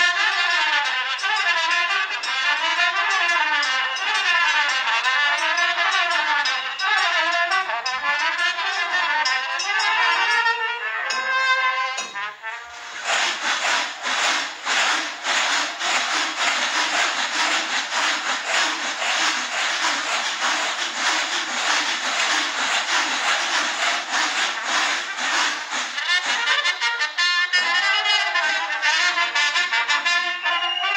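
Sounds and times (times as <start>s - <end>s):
loud rhythmic rattling noise: 0.0s - 30.2s
brass band playing: 0.0s - 30.9s.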